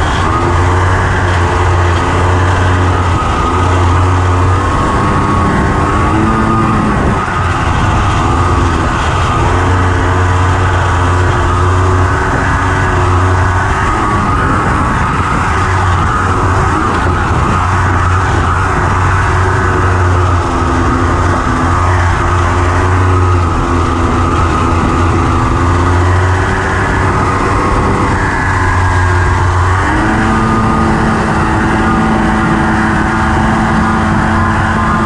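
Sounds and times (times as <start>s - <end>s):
dune buggy engine running hard: 0.0s - 35.0s.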